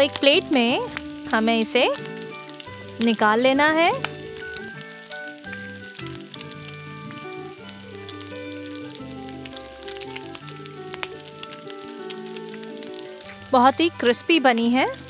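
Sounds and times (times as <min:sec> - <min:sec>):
background music of held notes: 0:00.0 - 0:15.0
deep-frying sizzle in hot oil: 0:00.0 - 0:15.0.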